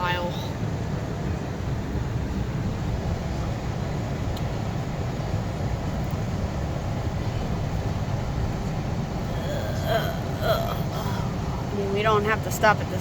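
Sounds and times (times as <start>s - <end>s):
car driving road noise: 0.0s - 13.0s.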